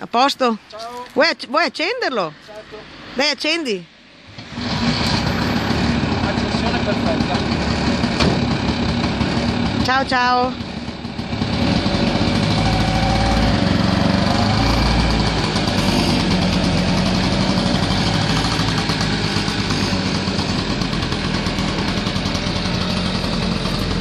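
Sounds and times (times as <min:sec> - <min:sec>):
small two-stroke engine running: 0:04.8 - 0:24.0.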